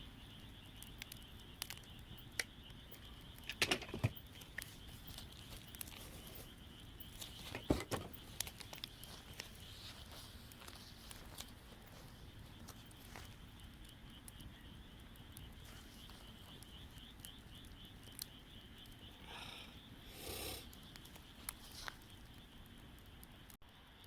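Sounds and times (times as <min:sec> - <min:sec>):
campfire crackling and popping: 0:00.0 - 0:23.6
faint high chirping: 0:00.0 - 0:24.0.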